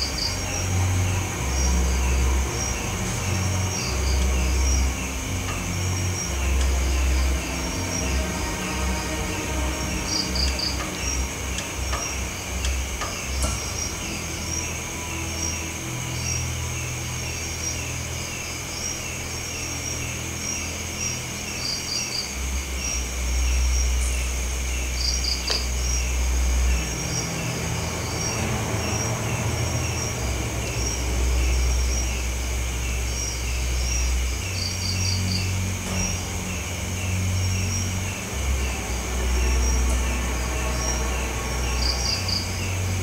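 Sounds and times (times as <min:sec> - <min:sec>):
cricket chirping: 0:00.0 - 0:43.0
high insect drone: 0:00.0 - 0:43.0.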